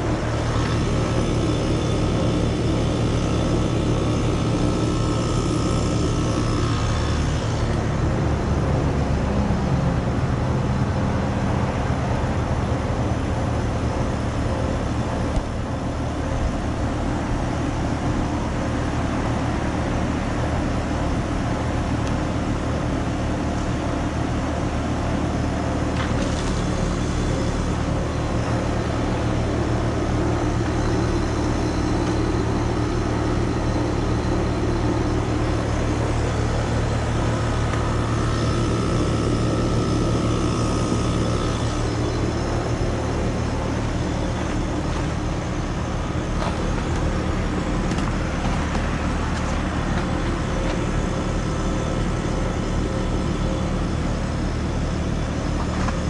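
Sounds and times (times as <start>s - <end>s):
heat pump humming and rushing: 0.0s - 56.0s.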